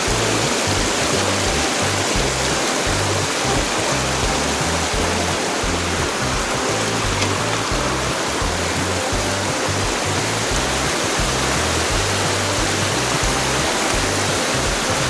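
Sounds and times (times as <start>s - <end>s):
background music bass notes: 0.0s - 15.0s
stream water rushing: 0.0s - 15.0s.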